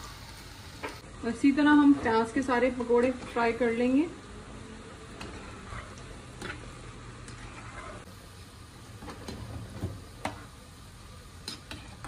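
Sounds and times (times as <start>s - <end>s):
pakoras sizzling in hot oil: 0.0s - 12.0s.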